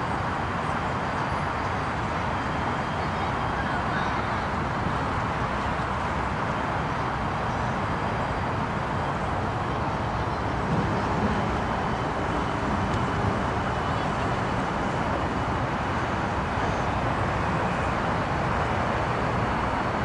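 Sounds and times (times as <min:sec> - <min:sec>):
diesel locomotive idling: 0:00.0 - 0:20.0.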